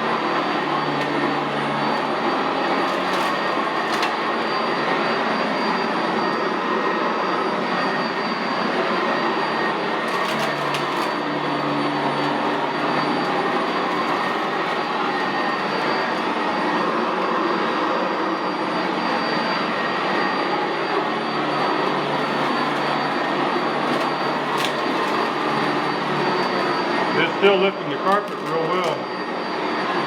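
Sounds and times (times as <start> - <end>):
vacuum cleaner on carpet: 0.0 - 30.0.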